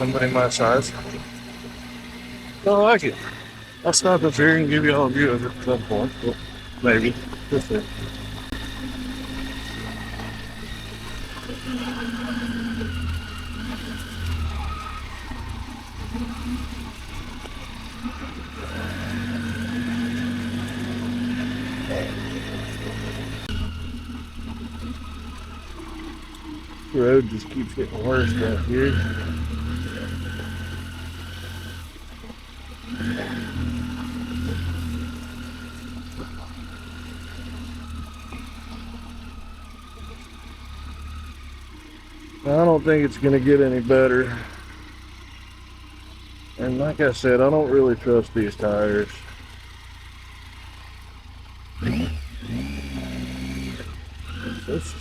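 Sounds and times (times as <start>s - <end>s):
motorcycle engine rumble with whine: 0.0s - 55.0s.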